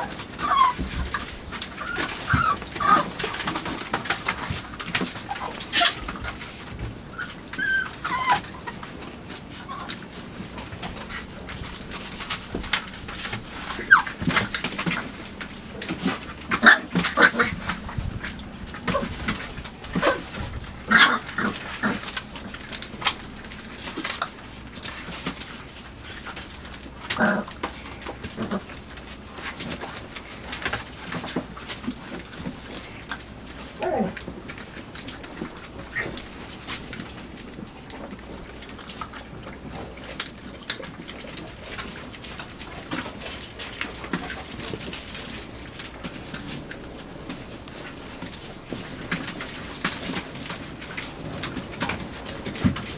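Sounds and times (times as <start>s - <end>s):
puppies squeaking and grunting: 0.0s - 50.4s.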